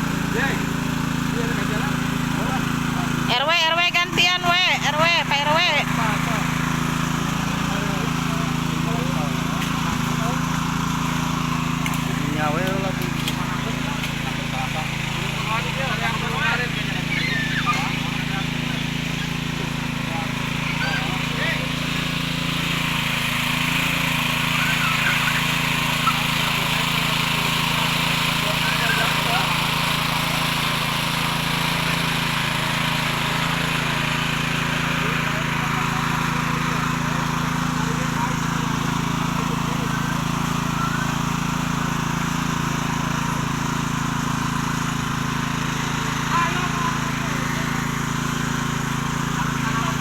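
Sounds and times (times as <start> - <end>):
cultivator engine running: 0.0 - 50.0.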